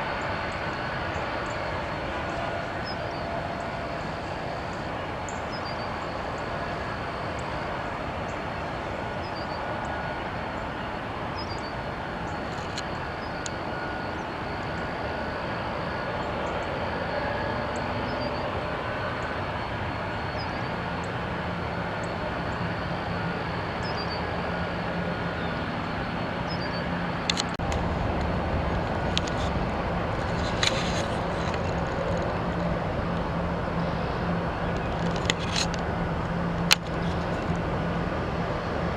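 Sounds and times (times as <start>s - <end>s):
jet aircraft noise: 0.0s - 38.9s
steady low hum: 0.0s - 38.9s.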